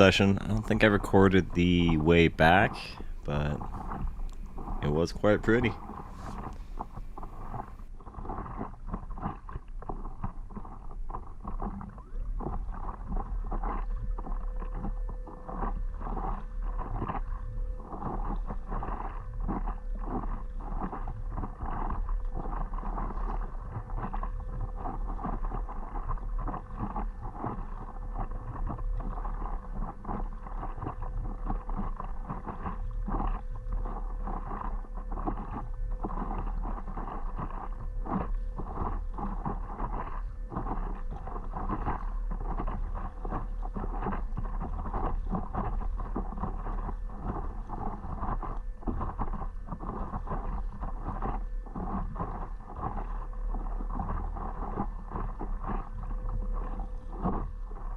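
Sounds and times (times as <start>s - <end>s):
faint steady hum: 0.0s - 7.9s, 14.9s - 57.9s
wind rumble on microphone: 0.0s - 57.9s
water sloshing against paddleboard: 11.4s - 57.9s.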